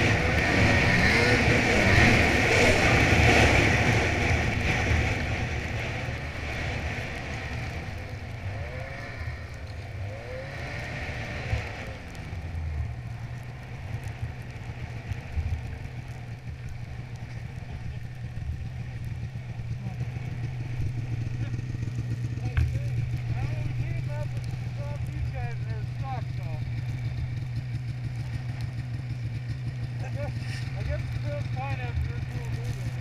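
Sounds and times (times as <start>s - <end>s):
snowmobile engine idling: 0.0s - 33.0s.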